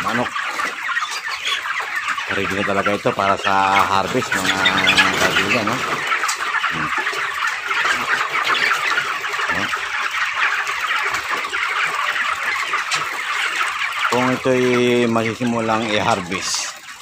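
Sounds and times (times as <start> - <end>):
flock of chickens peeping and clucking: 0.0 - 17.0.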